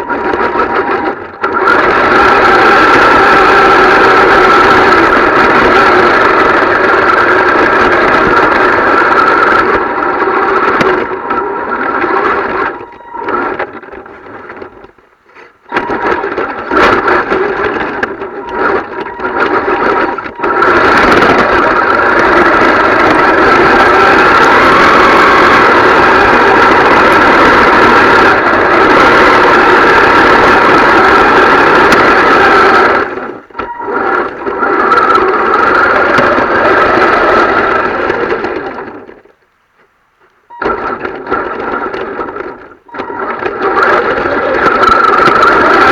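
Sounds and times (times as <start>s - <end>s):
rc car motor whining: 0.0s - 39.3s, 40.5s - 45.9s.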